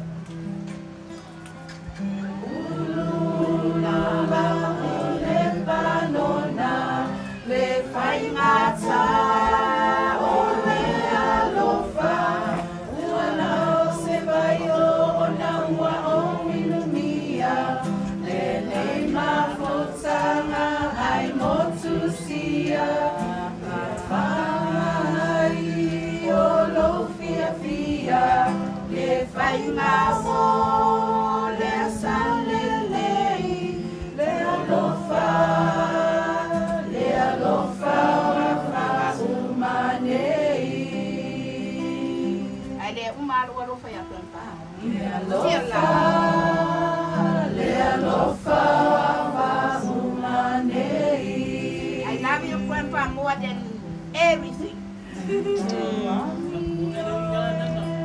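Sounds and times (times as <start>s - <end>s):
group singing a cappella: 2.0s - 58.0s.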